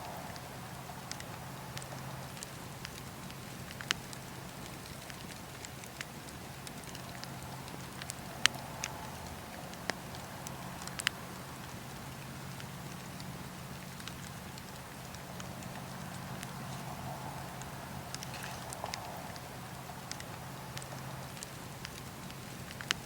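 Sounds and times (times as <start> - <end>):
campfire crackling: 0.0 - 23.0
low background noise: 0.0 - 23.0.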